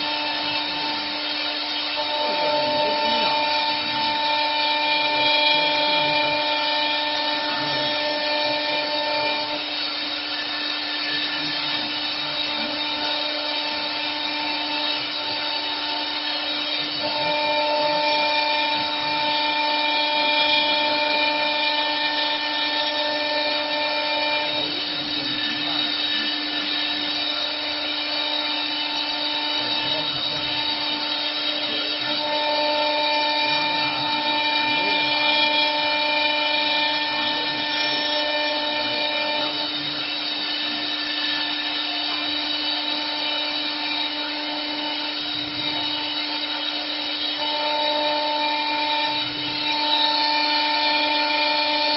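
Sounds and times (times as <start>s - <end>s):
engraving spindle whining: 0.0s - 51.9s.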